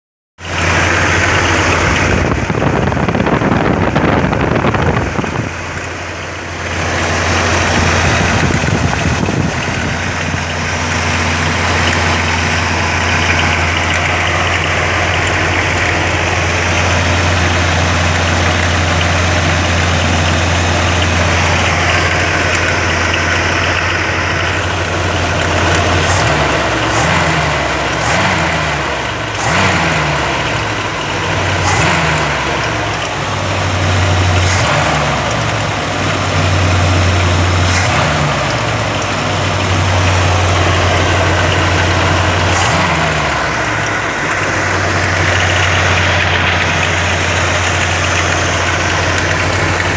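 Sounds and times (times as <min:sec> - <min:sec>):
engine idling and revving: 0:00.4 - 0:49.9.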